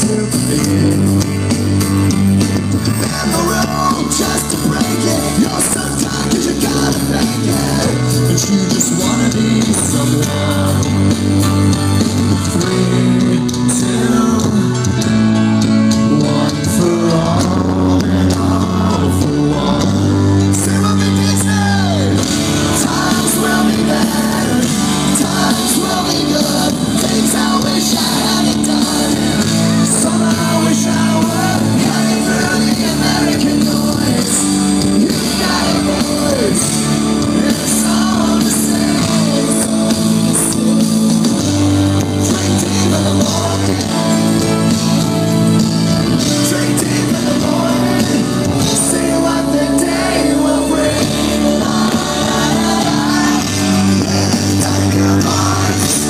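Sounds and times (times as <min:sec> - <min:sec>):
live rock band playing: 0:00.0 - 0:56.0
person singing: 0:02.8 - 0:15.2, 0:16.0 - 0:56.0.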